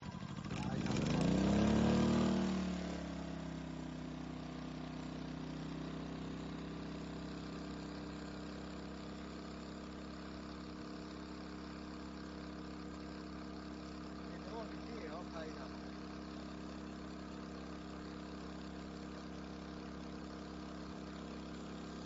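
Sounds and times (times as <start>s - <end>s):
inverter generator running: 0.0s - 22.0s.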